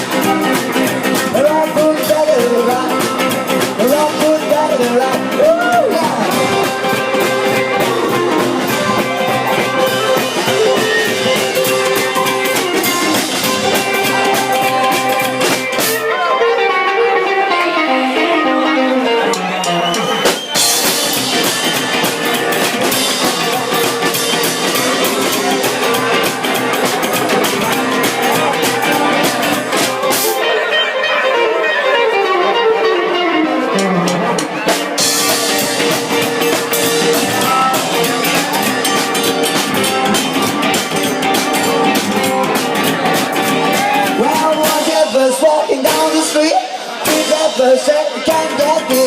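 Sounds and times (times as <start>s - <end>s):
drums with cymbals: 0.0s - 16.1s, 19.4s - 30.5s, 33.8s - 49.0s
guitar descending runs: 0.0s - 49.0s
rock band playing: 0.0s - 49.0s.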